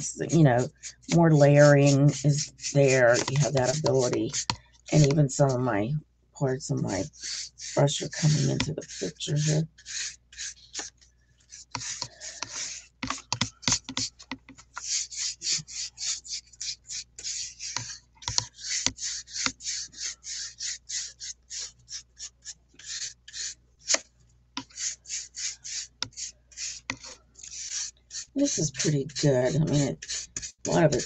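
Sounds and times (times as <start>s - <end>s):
paintbrush scrubbing on paper: 0.0s - 5.8s, 6.7s - 24.0s, 24.6s - 31.0s.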